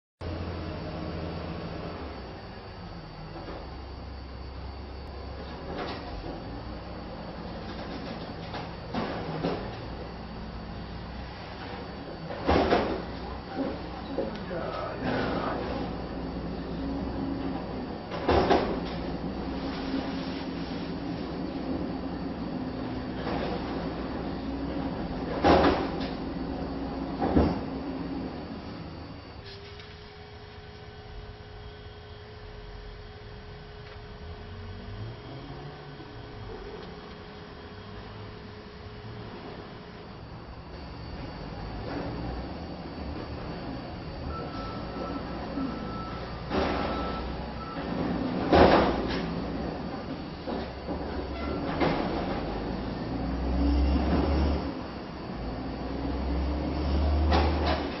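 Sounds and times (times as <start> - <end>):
hydraulic whining hum: 0.2 - 58.0.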